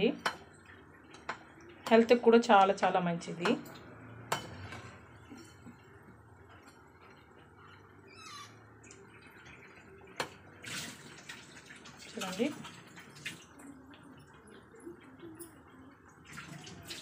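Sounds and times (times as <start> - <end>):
deep-frying sizzle with crackles: 0.0 - 17.0.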